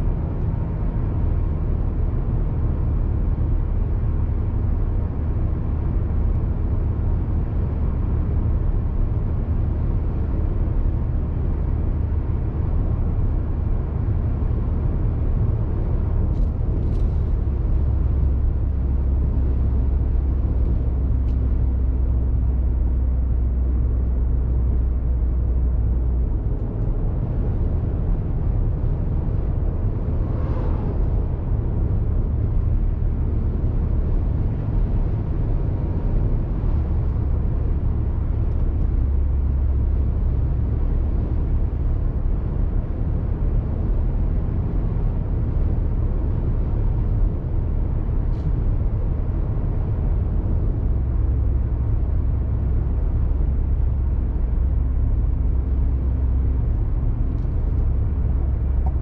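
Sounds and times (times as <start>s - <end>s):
low car engine drone: 0.0s - 59.0s
road and tyre noise: 0.0s - 59.0s.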